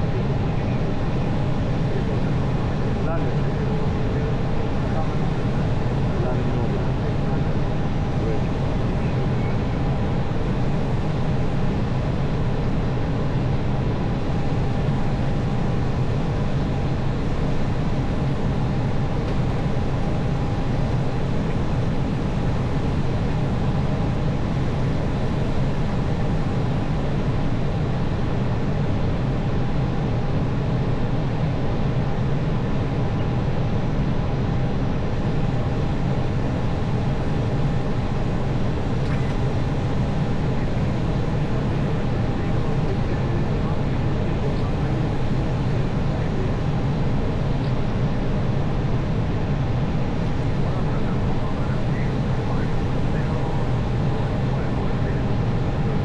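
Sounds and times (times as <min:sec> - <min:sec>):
aircraft engine and airflow rumble: 0:00.0 - 0:56.0.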